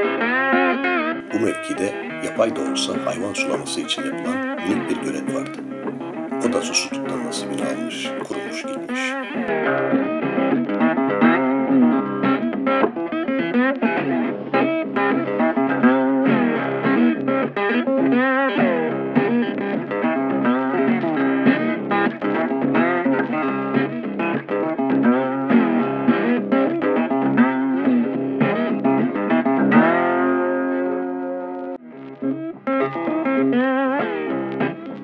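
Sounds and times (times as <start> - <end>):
plucked guitar instrumental: 0.0 - 35.0.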